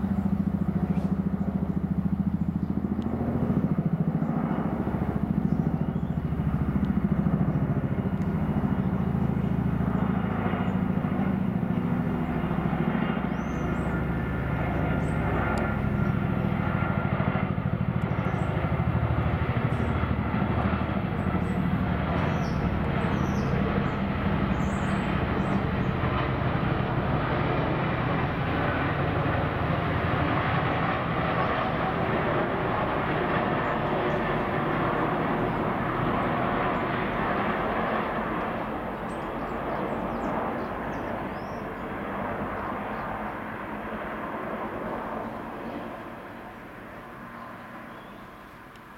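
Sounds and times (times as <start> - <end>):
helicopter rotors chopping: 0.0 - 48.9.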